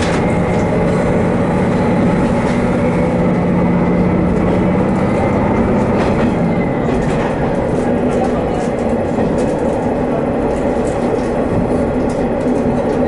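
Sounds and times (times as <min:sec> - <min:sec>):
diesel railcar engine drone: 0:00.0 - 0:13.0.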